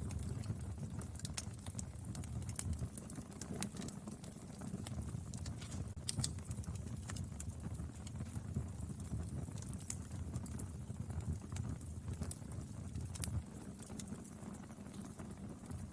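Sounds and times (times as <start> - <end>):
firewood crackling and popping: 0.0 - 15.9
low rumble of flames: 0.0 - 15.9.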